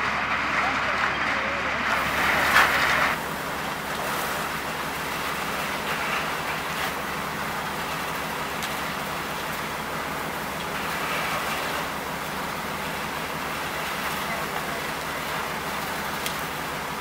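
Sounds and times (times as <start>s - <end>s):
engine rumble: 0.0s - 17.0s
hoses spraying water: 1.7s - 17.0s.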